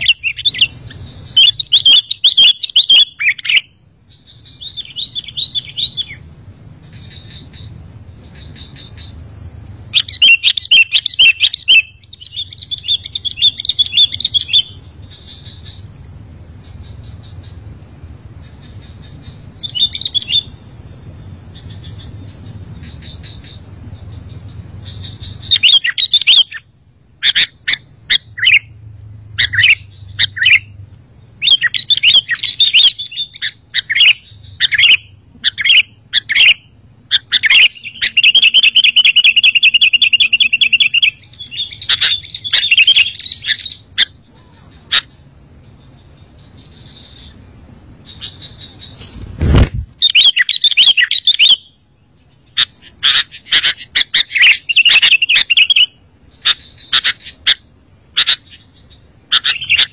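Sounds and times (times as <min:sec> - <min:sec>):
bulbul chirping and singing: 0:00.0 - 0:49.1, 0:50.0 - 0:59.9
faint low hum: 0:00.0 - 0:59.9.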